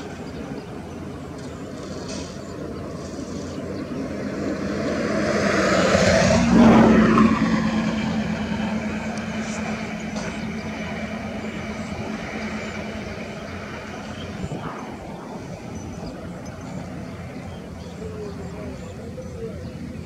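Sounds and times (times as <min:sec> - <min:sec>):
motor vehicle passing: 0:00.0 - 0:20.0.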